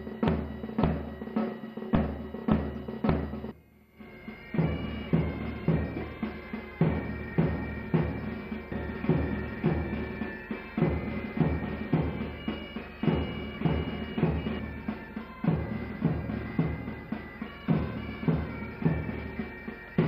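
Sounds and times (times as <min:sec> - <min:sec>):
bagpipes playing a tune: 0:00.0 - 0:20.0
drum beaten in rhythm: 0:00.0 - 0:20.0.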